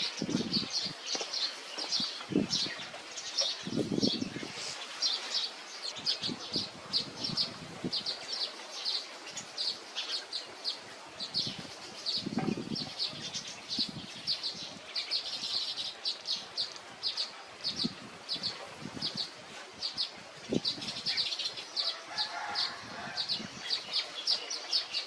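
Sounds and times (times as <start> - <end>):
weaver birds chirping: 0.0 - 25.0.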